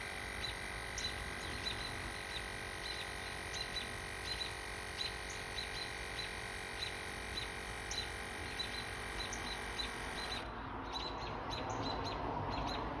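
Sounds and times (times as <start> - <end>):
air compressor humming: 0.0 - 10.6
rough mechanical noise: 0.0 - 10.8
birds chirping: 0.0 - 12.9.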